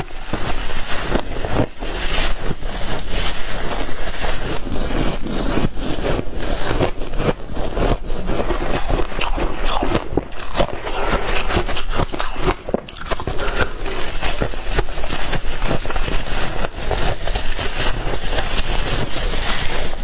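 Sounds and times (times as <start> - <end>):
ice crunching in mouth: 0.0 - 20.0.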